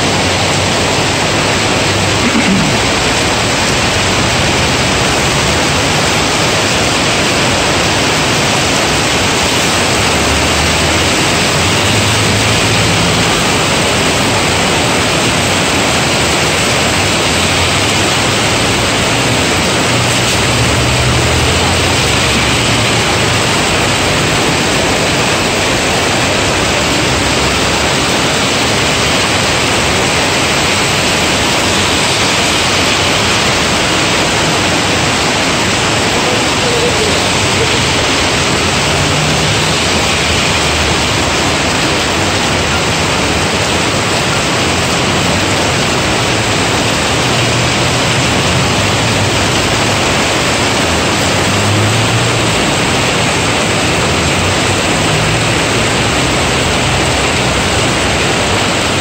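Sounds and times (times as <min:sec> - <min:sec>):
heavy rain on road: 0:00.0 - 0:59.0
vehicles driving on wet road: 0:00.0 - 0:59.0.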